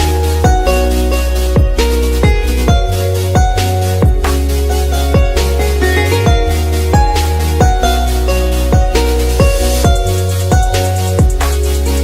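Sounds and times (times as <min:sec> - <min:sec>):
sustained bass line: 0:00.0 - 0:12.0.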